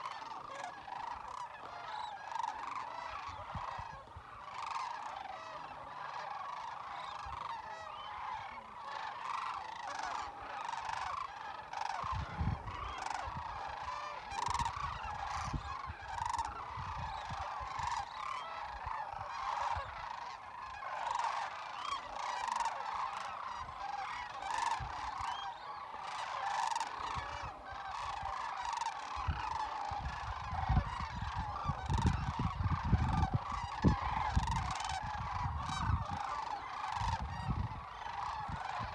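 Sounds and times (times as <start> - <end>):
flock of cranes calling: 0.0 - 38.9.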